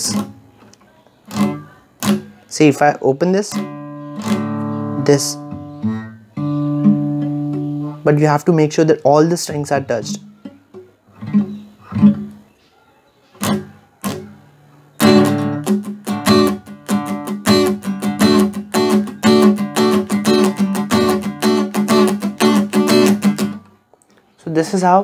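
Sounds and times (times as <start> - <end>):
acoustic guitar strumming: 0.0 - 0.6, 1.3 - 8.3, 9.5 - 12.4, 13.4 - 23.8.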